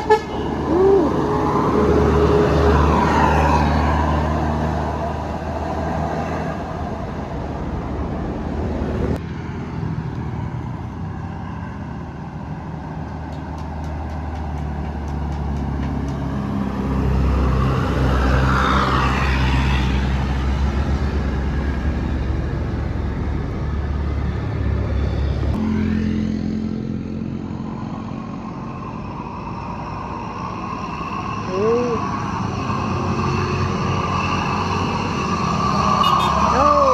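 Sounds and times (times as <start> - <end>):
bus engine driving past: 0.0 - 36.9.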